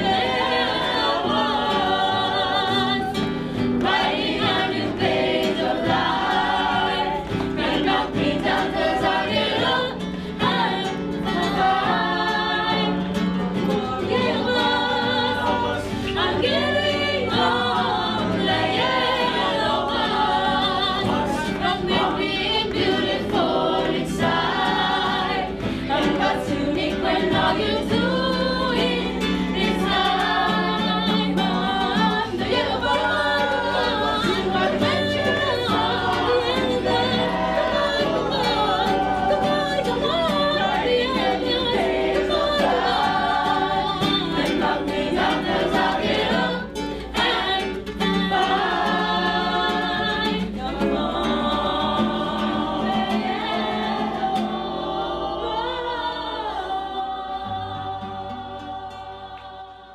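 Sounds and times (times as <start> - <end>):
acoustic guitar: 0.0 - 59.9
group of people singing: 0.0 - 59.9.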